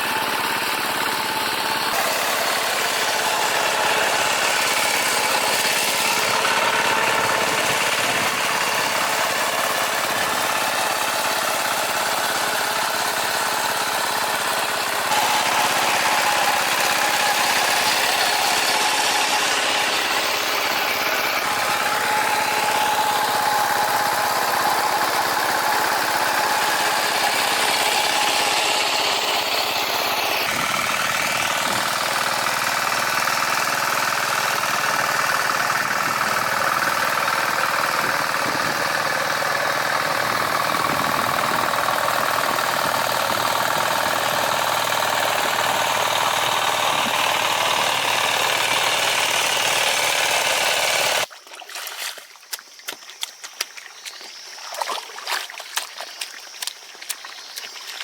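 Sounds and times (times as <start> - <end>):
tractor engine running: 0.0 - 51.4, 52.0 - 58.0.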